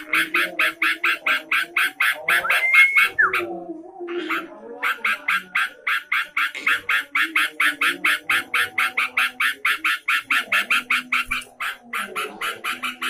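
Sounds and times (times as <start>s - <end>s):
bird chattering: 0.0s - 3.5s, 4.1s - 13.0s.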